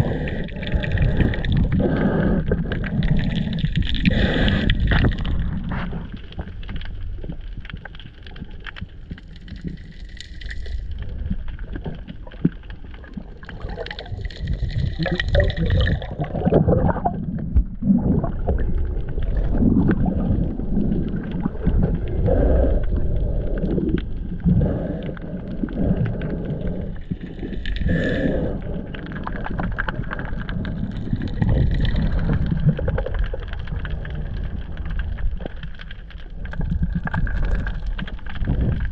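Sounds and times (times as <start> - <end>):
underwater rumble of moving water: 0.0 - 38.9.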